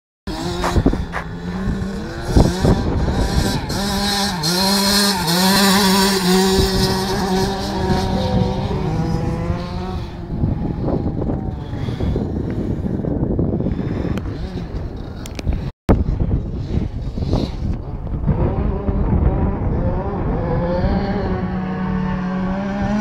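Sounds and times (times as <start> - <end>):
motocross bike engine revving: 0.3 - 15.4, 16.7 - 23.0.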